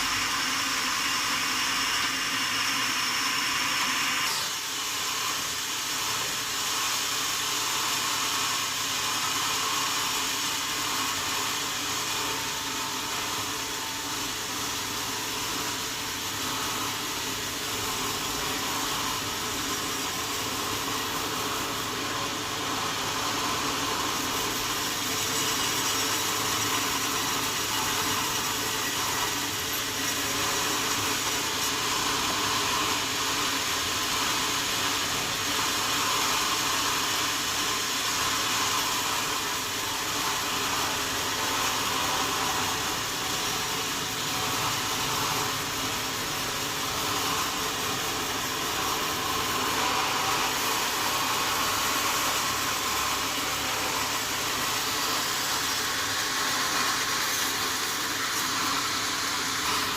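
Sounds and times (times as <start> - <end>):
sawmill saw whining: 0.0 - 59.9.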